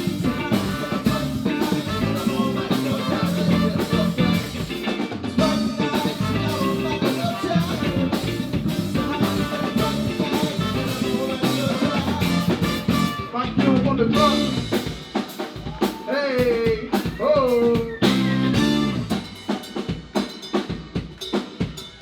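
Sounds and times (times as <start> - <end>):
live band playing: 0.0 - 22.0
steady drum beat: 0.0 - 22.0.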